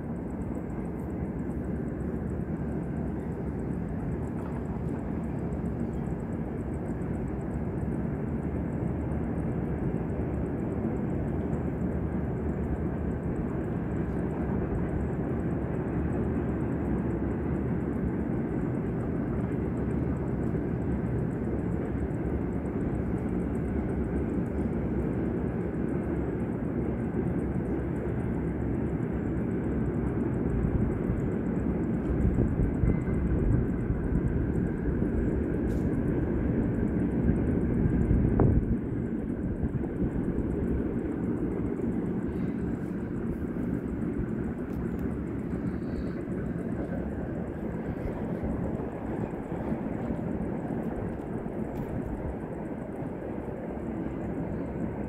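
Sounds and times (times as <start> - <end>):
low rumbling background noise: 0.0 - 55.0.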